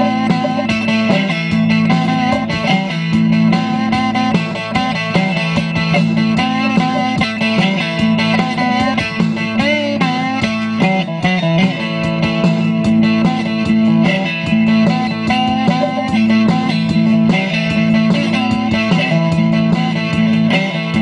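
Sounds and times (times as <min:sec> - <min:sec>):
solo guitar with sliding notes: 0:00.0 - 0:21.0.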